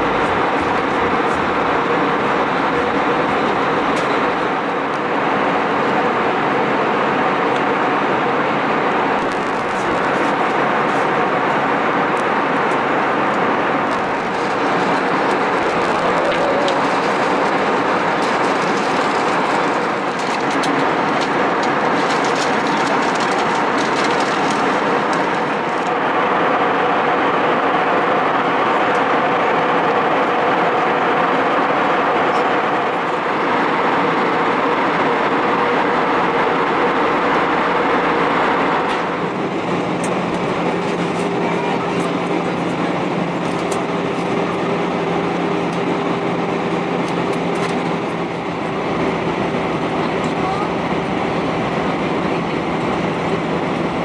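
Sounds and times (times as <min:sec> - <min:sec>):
airliner cabin hum: 0:00.0 - 0:54.0
engine tones: 0:08.9 - 0:54.0.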